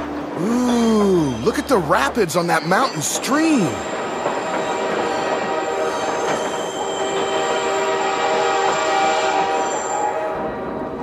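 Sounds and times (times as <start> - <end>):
train cars rumbling on rails: 0.0 - 11.0.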